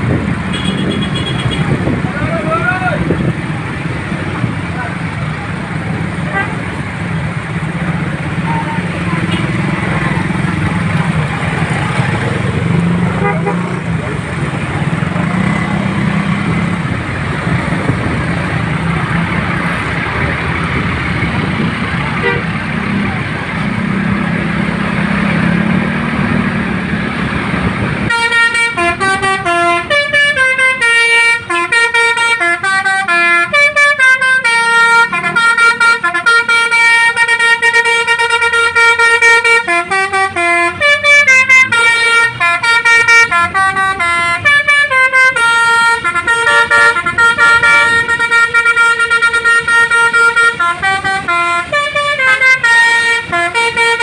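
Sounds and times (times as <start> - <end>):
vehicle noise: 0.0 - 54.0
multi-tone bus horn tune: 0.1 - 54.0.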